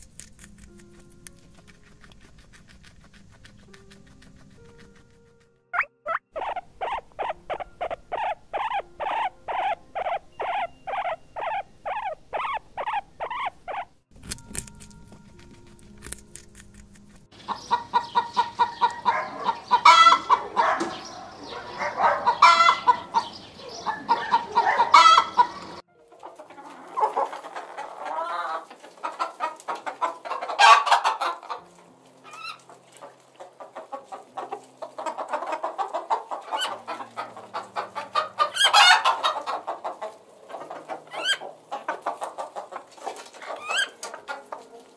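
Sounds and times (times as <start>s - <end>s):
guinea pig squeaking: 0.0s - 25.8s, 26.6s - 31.6s, 32.2s - 44.9s
hens clucking: 0.5s - 13.9s, 17.2s - 44.9s.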